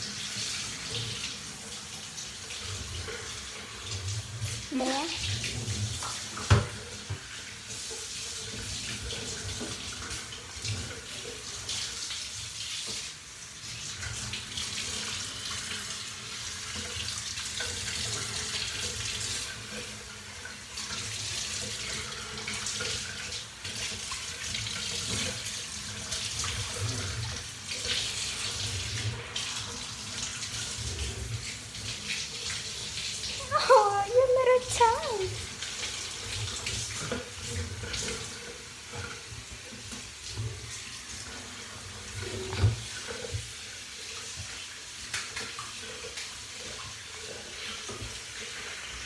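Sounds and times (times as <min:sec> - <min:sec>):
tap water running: 0:00.0 - 0:49.0.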